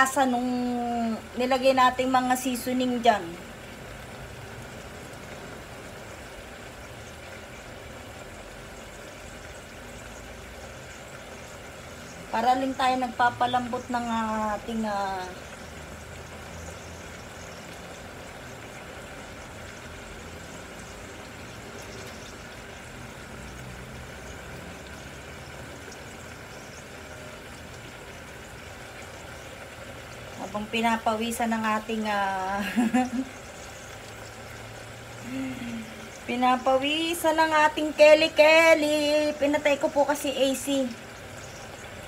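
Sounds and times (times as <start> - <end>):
faint crackles: 0.0 - 42.0
gas burner hum and hiss: 0.0 - 42.0.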